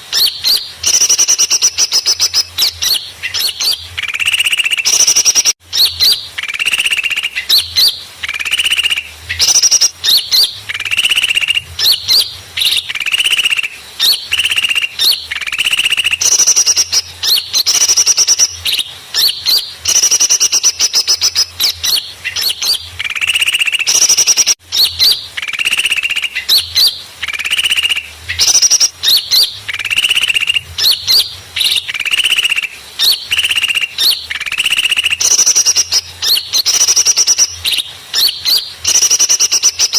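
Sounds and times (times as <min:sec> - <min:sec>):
recorded bird chirping and twittering: 0:00.0 - 0:39.9.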